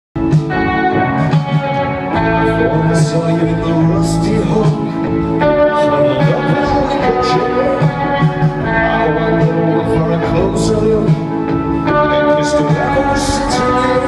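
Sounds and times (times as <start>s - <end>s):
electric guitar chords: 0.2s - 14.0s
live rock band through pa: 0.2s - 14.0s.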